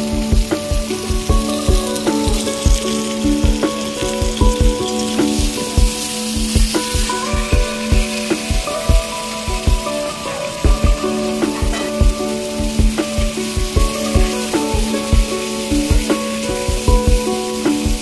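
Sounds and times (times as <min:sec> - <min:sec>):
background music with steady beat: 0:00.0 - 0:18.0
vegetables sizzling in oil: 0:00.1 - 0:18.0.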